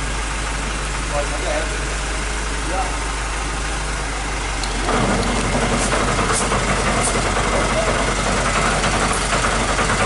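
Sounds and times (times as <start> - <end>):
fire truck engine running: 0.0 - 10.0.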